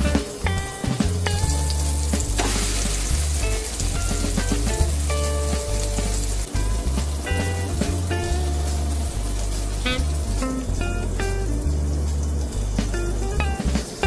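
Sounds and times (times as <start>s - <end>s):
meat patties sizzling in oil: 0.0s - 14.0s.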